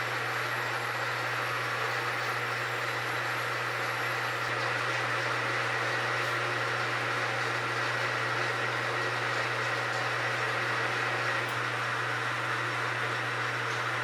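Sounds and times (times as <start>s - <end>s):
metal lathe cutting steel: 0.0s - 14.0s.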